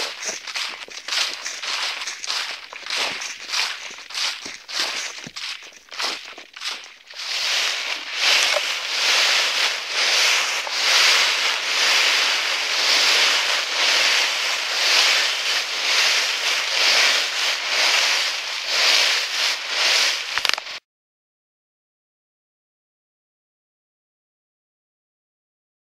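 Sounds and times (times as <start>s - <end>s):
footsteps in dry leaves: 0.0s - 20.8s.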